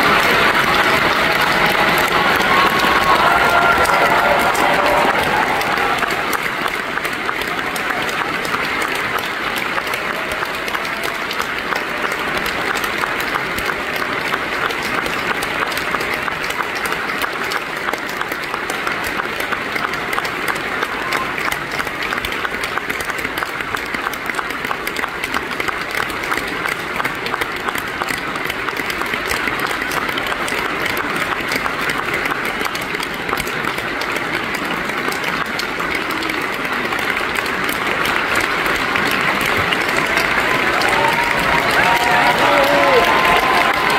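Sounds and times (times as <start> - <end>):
audience applauding: 0.0 - 43.9.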